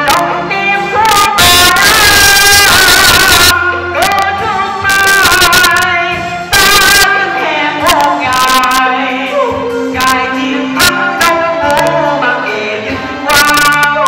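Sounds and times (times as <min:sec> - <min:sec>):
person singing with accompaniment: 0:00.0 - 0:14.0.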